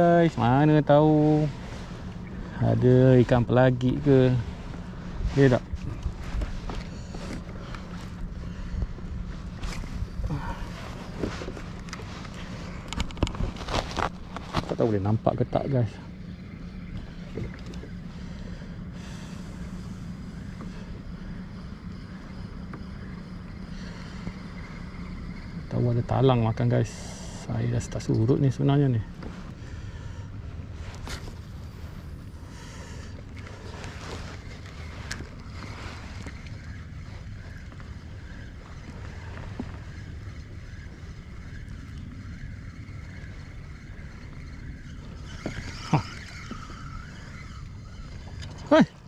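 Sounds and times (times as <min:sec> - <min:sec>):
water moving around kayak: 0:00.0 - 0:49.0.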